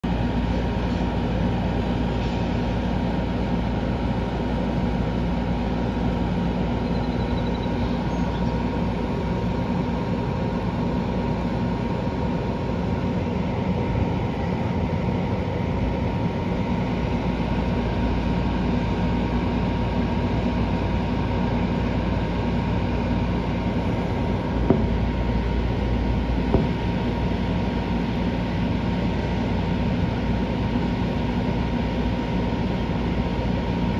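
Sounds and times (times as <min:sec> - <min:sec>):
low rumble with faint hum: 0:00.0 - 0:33.9.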